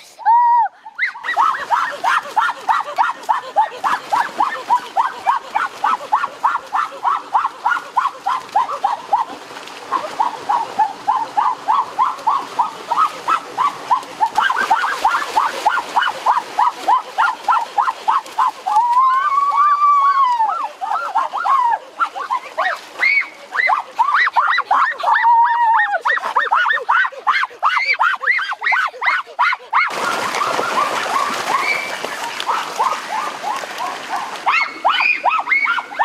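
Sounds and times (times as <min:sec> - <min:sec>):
splashing rushing water: 0:01.0 - 0:36.0.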